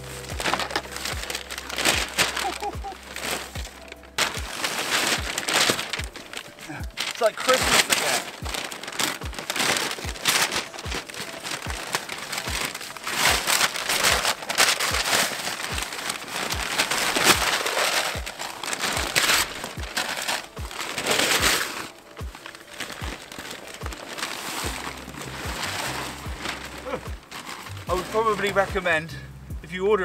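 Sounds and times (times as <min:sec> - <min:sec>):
paper packaging tearing and crackling: 0:00.0 - 0:28.9.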